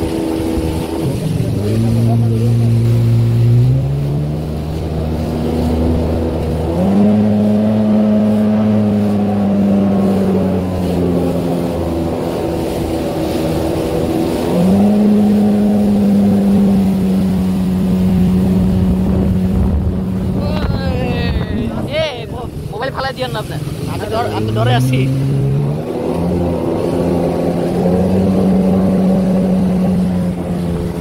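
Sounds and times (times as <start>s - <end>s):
hull rushing through water: 0.0s - 31.0s
jet ski engine revving: 0.0s - 31.0s.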